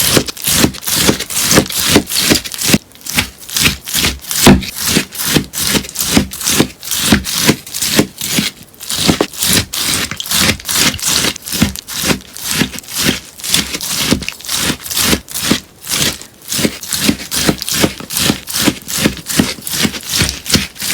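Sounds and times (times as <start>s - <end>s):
sponge being cut: 0.0s - 20.9s.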